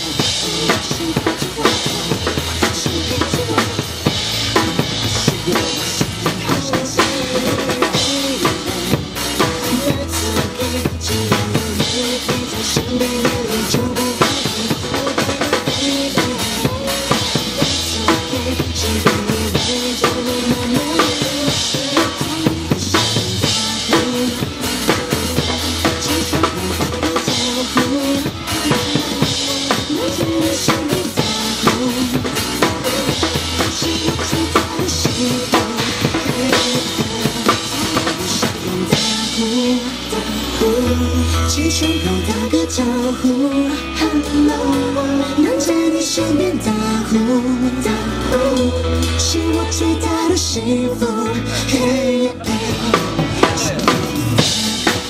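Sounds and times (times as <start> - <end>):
drum kit playing: 0.0 - 55.0
recorded pop song: 0.0 - 55.0.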